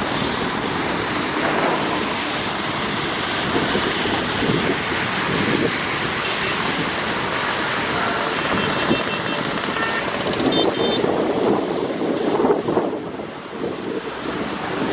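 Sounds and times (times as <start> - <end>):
train wheels rumbling on rails: 0.0 - 14.9.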